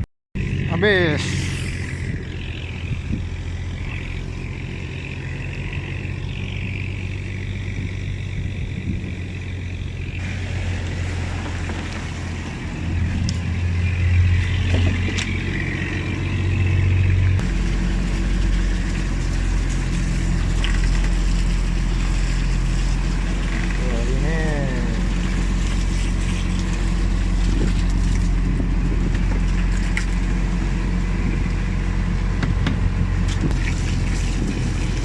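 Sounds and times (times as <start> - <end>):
boat engine drone: 0.0 - 35.0.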